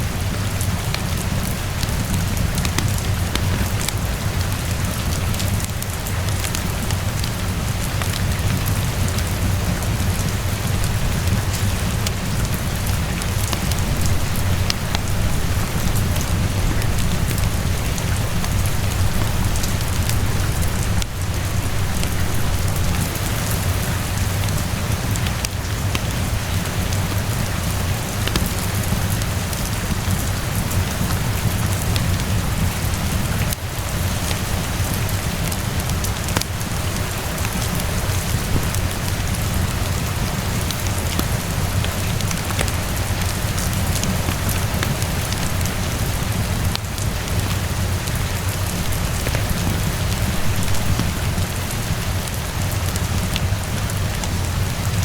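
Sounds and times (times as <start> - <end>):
steady rainfall: 0.0 - 55.0
wood fire crackling: 0.0 - 55.0.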